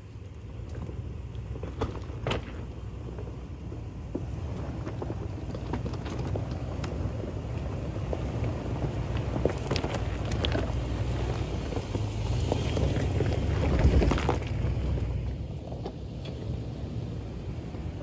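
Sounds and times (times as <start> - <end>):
engine rumbling at crawling speed: 0.0 - 18.0
vehicle bump: 0.5 - 16.7.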